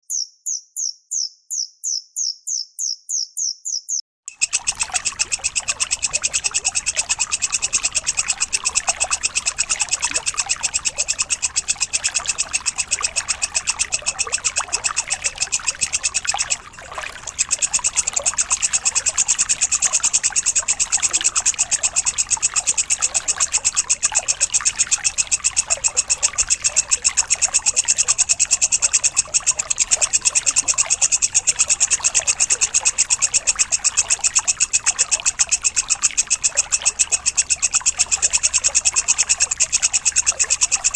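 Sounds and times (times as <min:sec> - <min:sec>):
insect chirping: 0:00.1 - 0:40.9.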